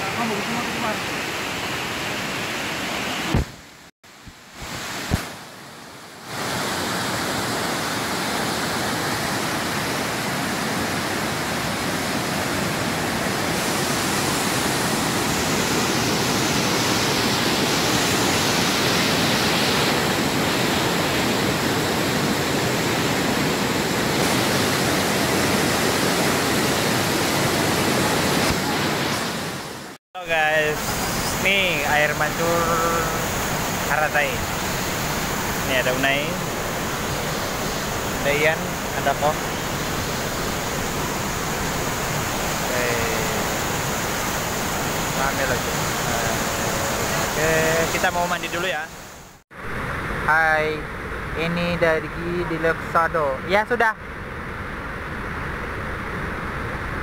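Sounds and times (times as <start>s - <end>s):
waterfall rushing: 0.0s - 3.5s, 6.2s - 50.7s.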